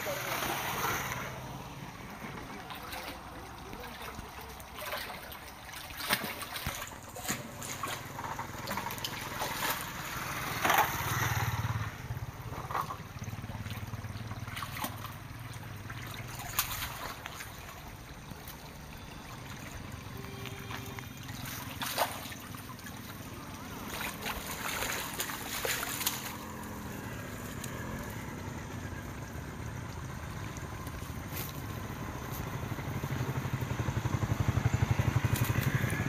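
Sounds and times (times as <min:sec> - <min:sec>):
water sloshing and trickling: 0:00.0 - 0:36.0.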